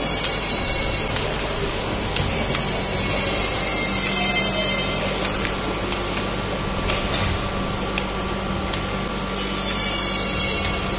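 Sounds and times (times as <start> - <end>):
machine mechanical hum: 0.0 - 10.9.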